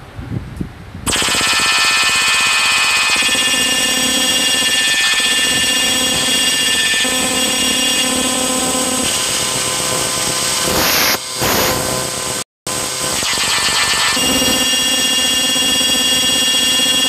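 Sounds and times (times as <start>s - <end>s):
dense midi notes noisy wall: 1.0s - 17.0s.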